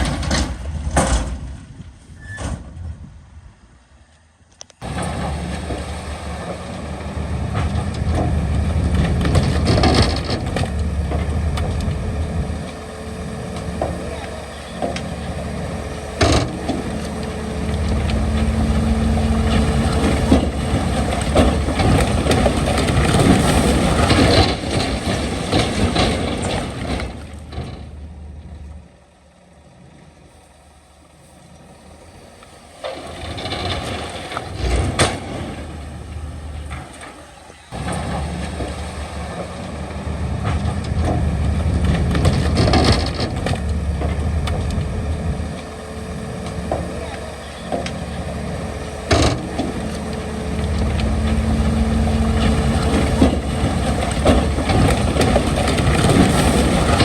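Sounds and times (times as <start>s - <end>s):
knocks and clanks: 0.0s - 1.4s, 4.8s - 28.0s, 32.7s - 57.0s
heavy diesel machinery rumbling: 0.0s - 57.0s.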